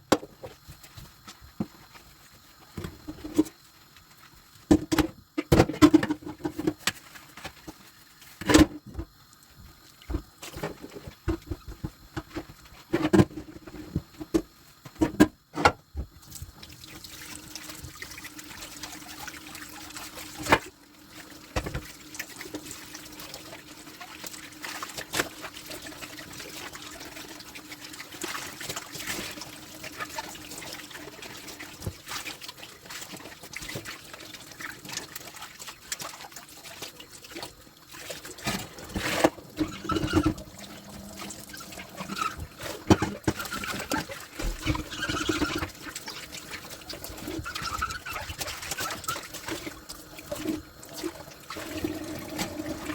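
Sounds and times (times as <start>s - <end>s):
tap water running into sink: 10.0s - 52.9s.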